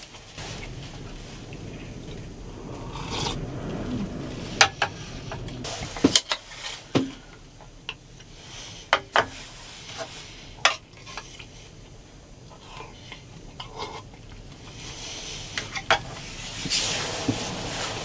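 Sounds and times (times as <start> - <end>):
low rumble: 0.3 - 18.0.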